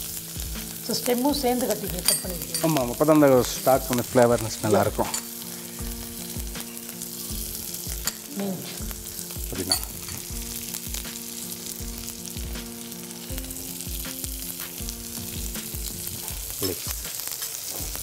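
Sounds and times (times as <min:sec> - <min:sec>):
soft background music: 0:00.0 - 0:18.0
vegetables sizzling in oil: 0:00.0 - 0:18.0.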